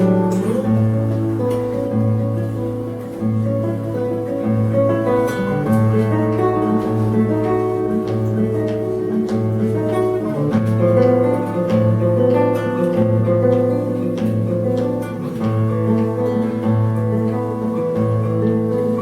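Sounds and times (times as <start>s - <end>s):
solo guitar playing: 0.0s - 19.0s.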